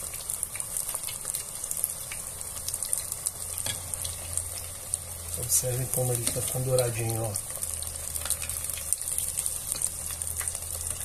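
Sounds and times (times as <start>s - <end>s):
chicken deep-frying in hot oil: 0.0s - 11.0s.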